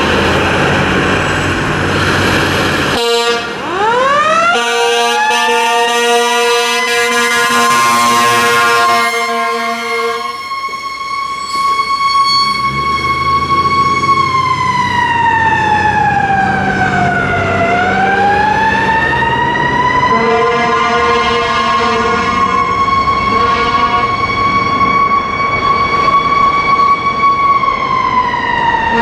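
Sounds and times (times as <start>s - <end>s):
diesel engine rumbling: 0.0s - 29.0s
fire truck air horns blaring: 1.8s - 29.0s
siren wailing: 2.5s - 29.0s.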